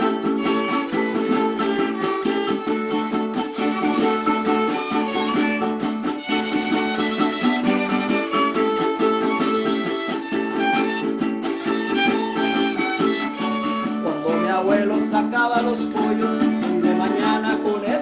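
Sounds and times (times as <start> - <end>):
strummed guitars: 0.0 - 18.0
violin melody: 0.0 - 18.0.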